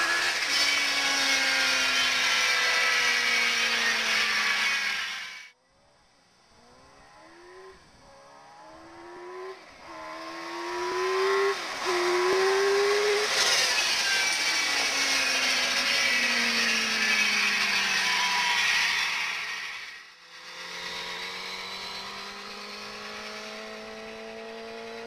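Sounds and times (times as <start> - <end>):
motorcycle engine accelerating: 0.0 - 5.2, 6.5 - 25.0.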